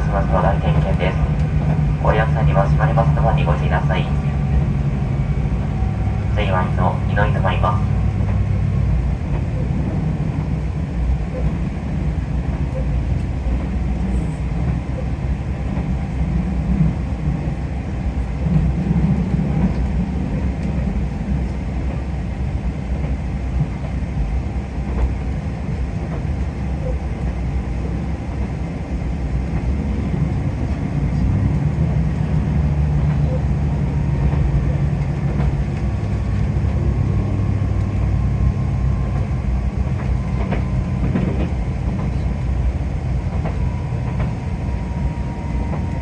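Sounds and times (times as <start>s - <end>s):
railcar engine drone: 0.0s - 46.0s
wheels rumbling on rail: 0.0s - 46.0s.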